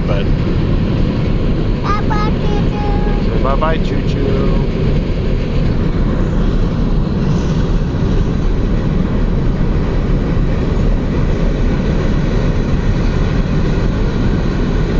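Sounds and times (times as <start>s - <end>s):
freight train rumbling on rails: 0.0s - 14.9s.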